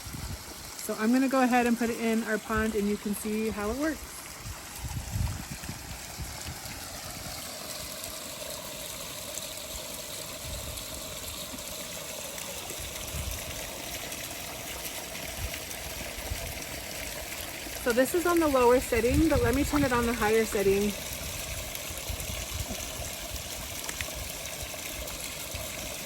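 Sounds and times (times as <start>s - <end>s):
fountain water splashing: 0.0s - 26.0s.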